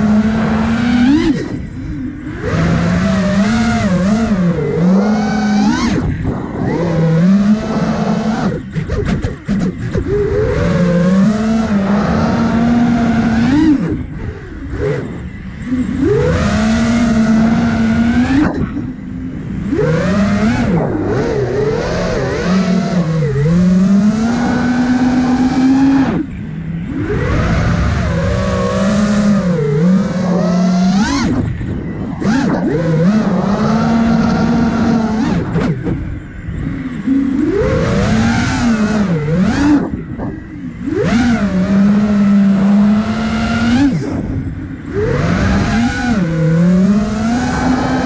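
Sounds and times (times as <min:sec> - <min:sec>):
quadcopter motors whining: 0:00.0 - 0:48.0.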